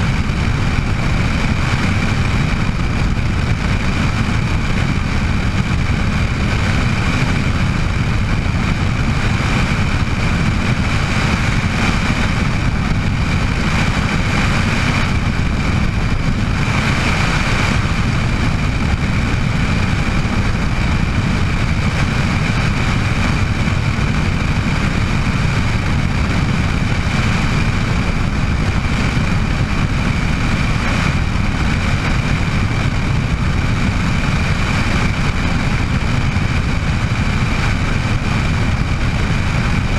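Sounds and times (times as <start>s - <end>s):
helicopter rotor and engine drone: 0.0s - 39.9s
high turbine whine: 0.0s - 39.9s.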